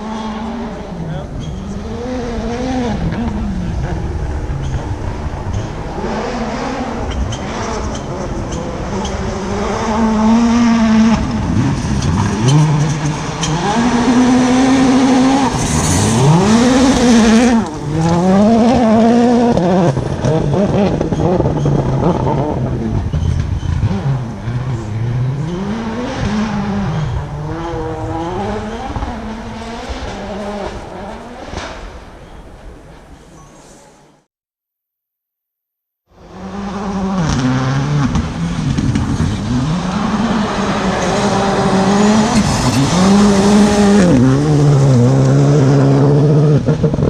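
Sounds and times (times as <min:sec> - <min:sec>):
rally car engine revving: 0:00.0 - 0:32.5, 0:36.2 - 0:47.0.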